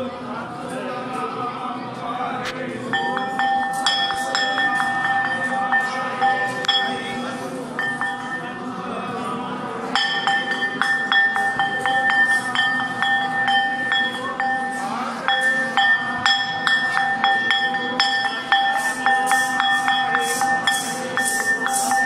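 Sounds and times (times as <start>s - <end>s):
metal bell struck: 2.9s - 8.8s, 9.9s - 22.0s.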